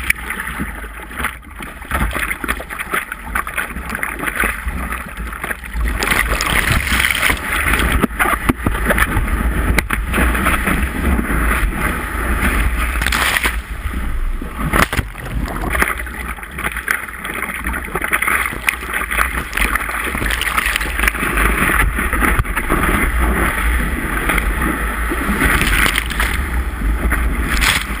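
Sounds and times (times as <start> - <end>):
breaking whitewater: 0.0 - 28.0
water slapping camera: 0.0 - 28.0
water splashing around surfboard: 0.0 - 28.0
wind rumble on microphone: 0.0 - 28.0.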